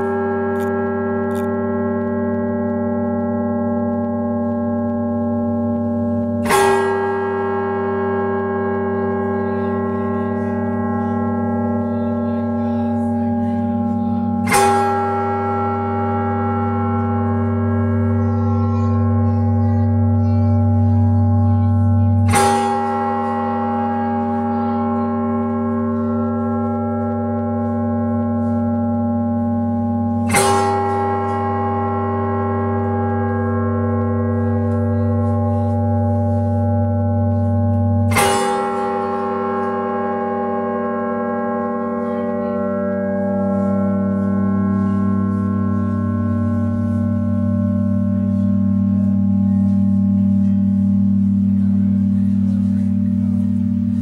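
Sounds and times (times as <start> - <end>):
deep bell ringing hum: 0.0 - 54.0
large bell clanging: 0.0 - 54.0.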